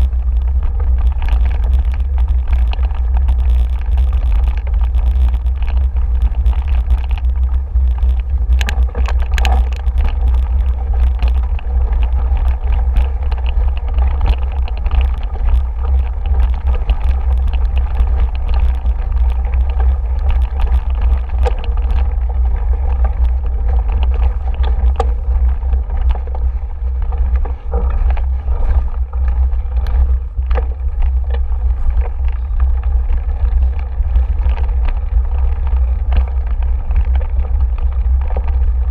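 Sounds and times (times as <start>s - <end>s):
bike rattling over bumps: 0.0s - 38.9s
wind rumble on microphone: 0.0s - 38.9s.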